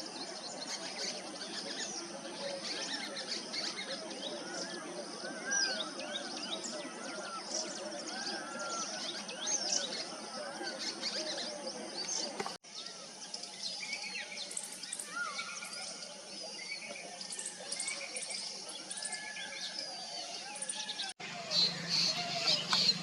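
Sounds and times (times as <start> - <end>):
wild birds chirping and whistling: 0.0 - 23.0.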